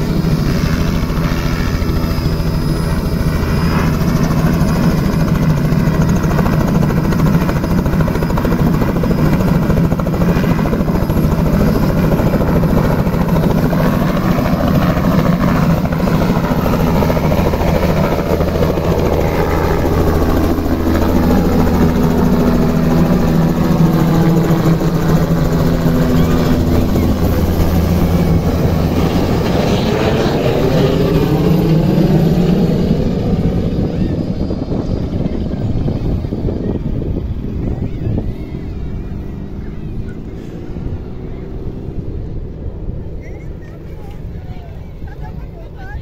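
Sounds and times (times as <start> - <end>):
helicopter rotor chopping: 0.0 - 46.0.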